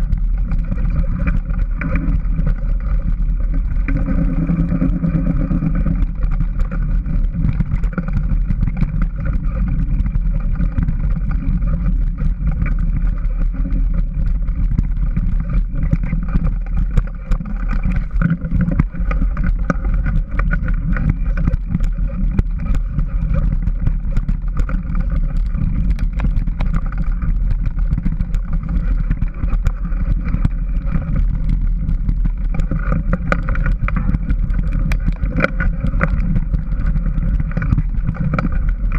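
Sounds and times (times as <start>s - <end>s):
small motorbike engine running: 0.0s - 38.9s.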